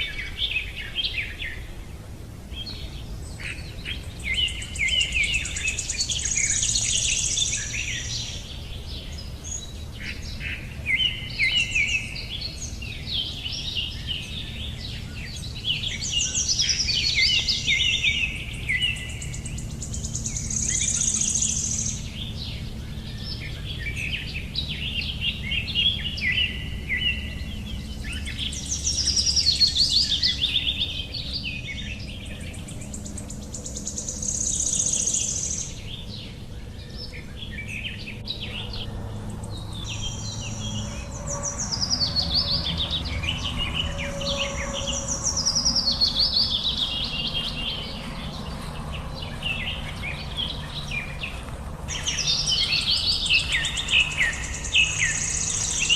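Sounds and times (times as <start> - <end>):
low background rumble: 0.0 - 55.9
songbirds singing: 0.0 - 55.9.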